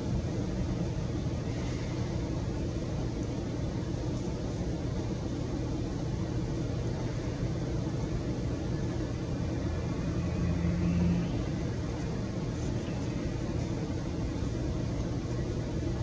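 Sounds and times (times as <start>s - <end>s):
faint hum: 0.0s - 16.0s
low background rumble: 0.0s - 16.0s.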